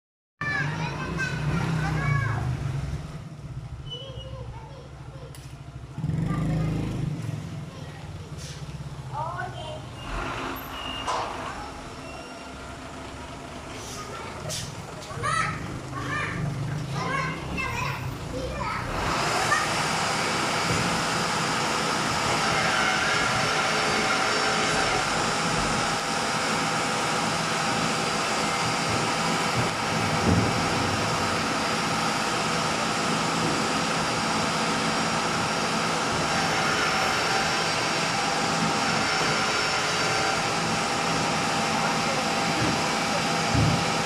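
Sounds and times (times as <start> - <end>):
garbage truck mechanical drone: 0.4 - 44.0.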